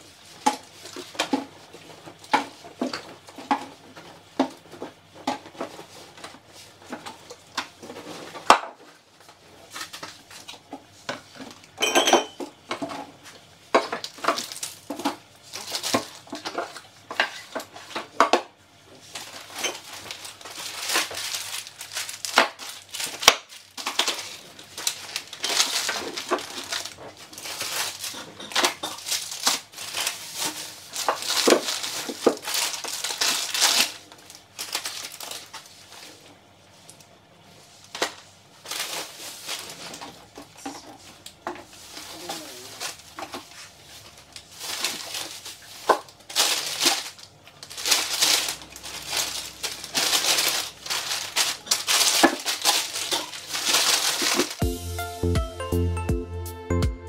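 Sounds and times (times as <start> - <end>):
plastic bags rustling: 0.0 - 54.6.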